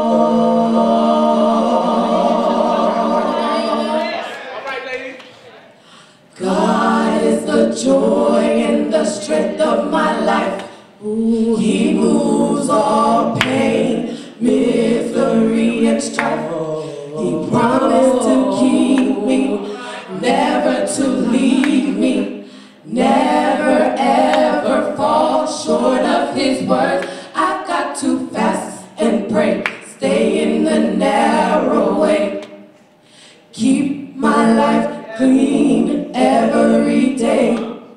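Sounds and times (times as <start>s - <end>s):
women singing a cappella harmony: 0.0s - 4.3s, 5.8s - 37.9s.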